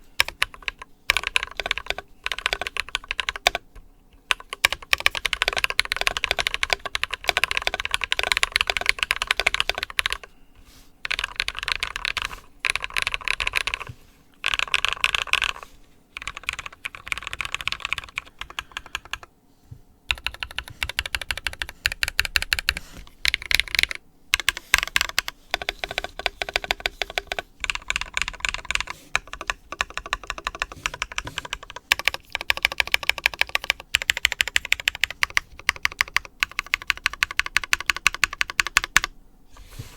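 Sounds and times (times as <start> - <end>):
typing on a mechanical keyboard: 0.2 - 3.6, 4.3 - 10.3, 11.0 - 15.6, 16.2 - 19.3, 20.1 - 39.1.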